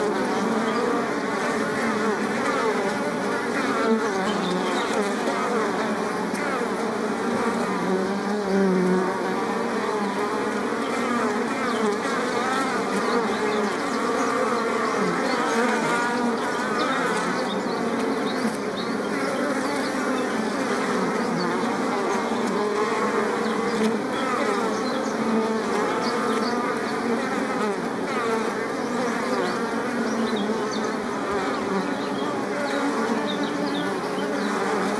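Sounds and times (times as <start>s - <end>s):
bees buzzing: 0.0s - 34.9s.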